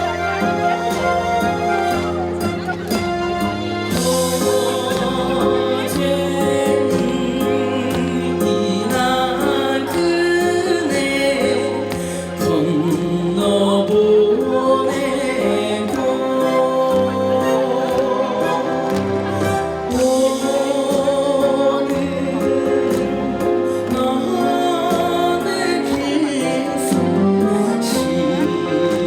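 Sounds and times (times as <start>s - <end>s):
trot music with full band: 0.0s - 29.0s.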